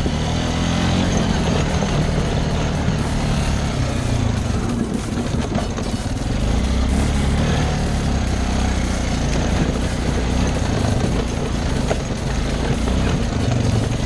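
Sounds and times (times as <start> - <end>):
off-road vehicle engine droning: 0.0 - 14.0.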